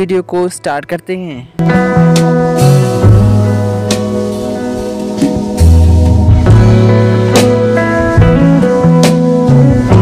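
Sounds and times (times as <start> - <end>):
guitar: 0.0 - 10.0
sustained bass line: 0.0 - 10.0.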